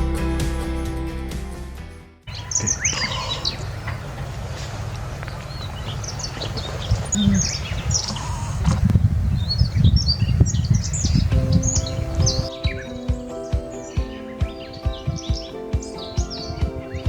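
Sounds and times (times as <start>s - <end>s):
small birds chirping: 2.3s - 4.3s, 5.2s - 17.0s.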